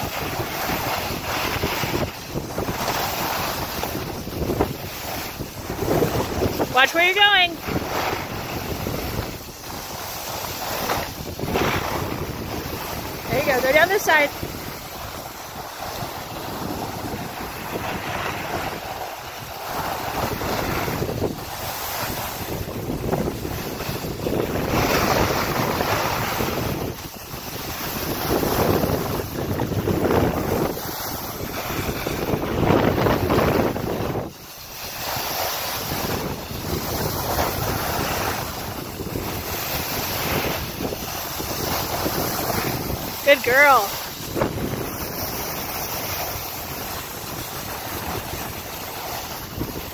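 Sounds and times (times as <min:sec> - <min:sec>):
skis scraping over packed snow: 0:00.0 - 0:49.9
wind rumbling on microphone: 0:00.0 - 0:49.9.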